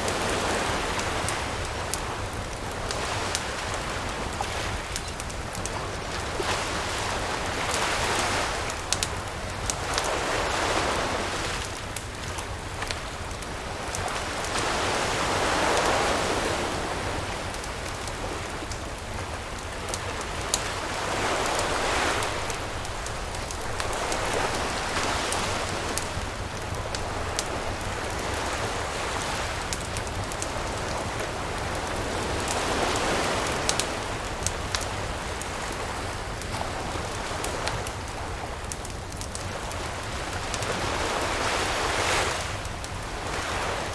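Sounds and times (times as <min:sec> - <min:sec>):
campfire crackling: 0:00.0 - 0:43.9
surf washing in and out: 0:00.0 - 0:43.9.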